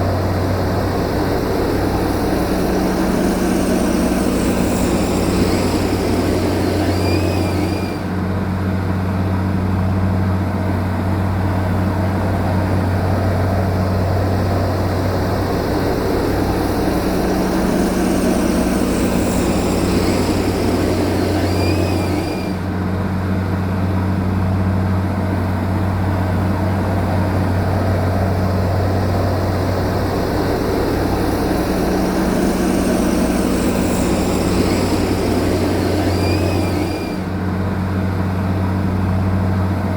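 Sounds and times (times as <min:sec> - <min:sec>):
heavy machine engine humming: 0:00.0 - 0:39.9.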